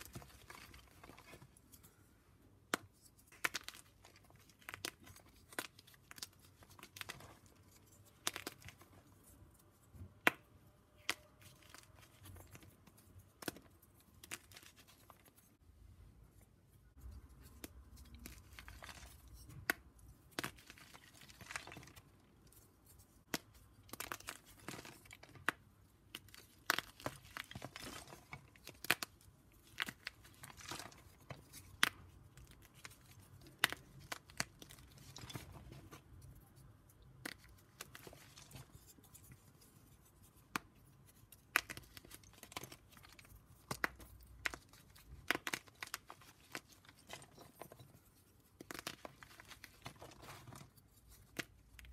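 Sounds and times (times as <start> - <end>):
chalk cracking and crunching: 0.0 - 2.0, 2.6 - 10.0, 16.9 - 51.9.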